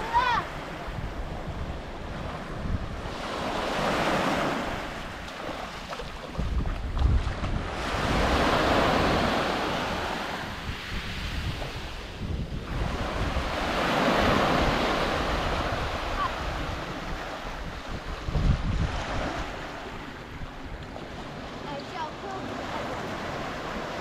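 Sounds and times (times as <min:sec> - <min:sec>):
waves washing up shore: 0:00.0 - 0:24.0
wind rumbling on microphone: 0:00.0 - 0:24.0.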